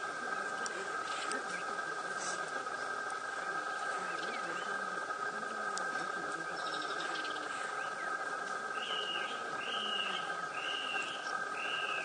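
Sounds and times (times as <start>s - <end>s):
steady high-pitched drone: 0.0s - 12.0s.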